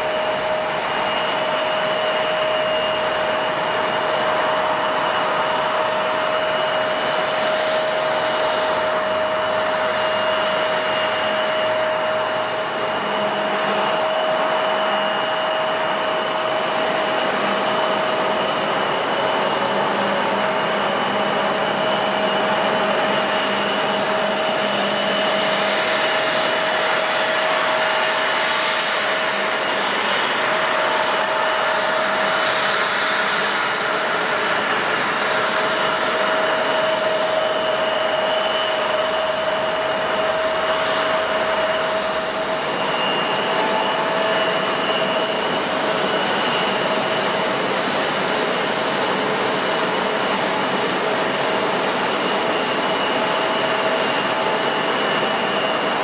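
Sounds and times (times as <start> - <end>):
airliner engines rushing air: 0.0 - 56.0.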